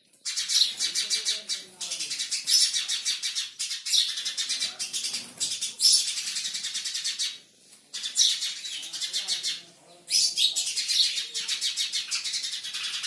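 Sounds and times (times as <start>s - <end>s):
small birds chirping rapidly: 0.0s - 13.0s.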